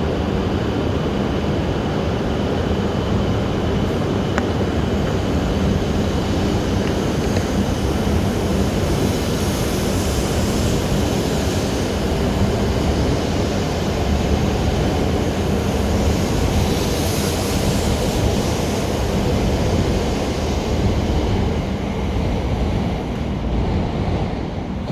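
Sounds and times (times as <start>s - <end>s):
train rumble and hiss: 0.0s - 24.9s.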